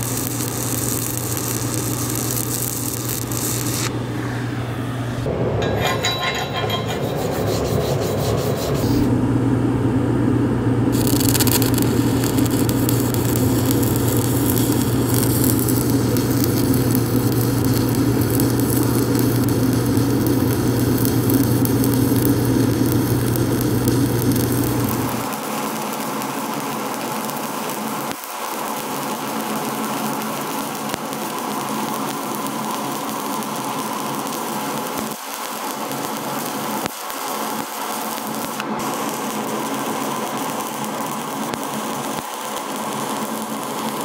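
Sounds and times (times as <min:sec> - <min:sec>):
welding arc crackling and sizzling: 0:00.0 - 0:04.2, 0:10.9 - 0:44.0.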